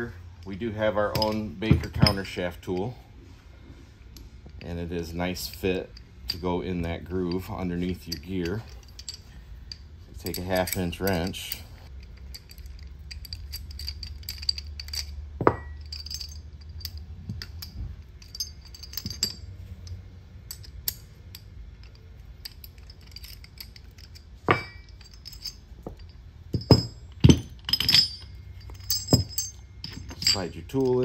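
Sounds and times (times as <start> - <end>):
metal tool parts clinking: 0.4 - 3.0, 4.4 - 31.0.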